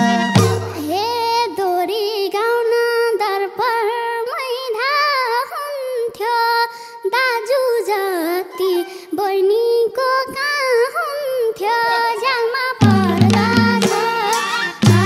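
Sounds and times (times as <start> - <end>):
girl singing into a microphone: 0.0 - 15.0.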